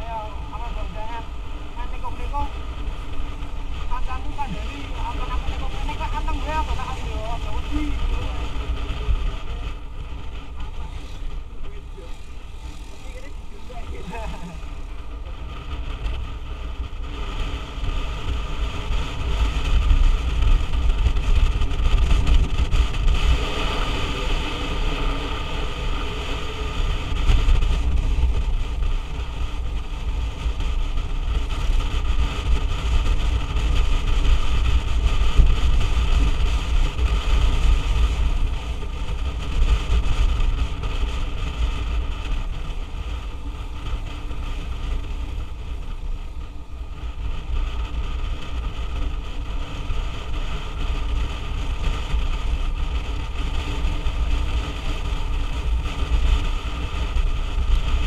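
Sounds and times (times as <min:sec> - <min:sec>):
motorbike engine running: 0:00.0 - 0:58.0
wind on microphone: 0:00.0 - 0:58.0.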